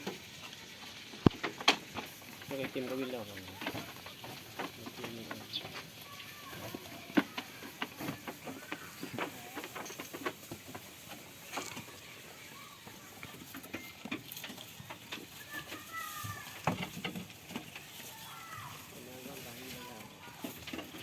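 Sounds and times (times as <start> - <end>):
goats feeding clicks and knocks: 0.0 - 21.0.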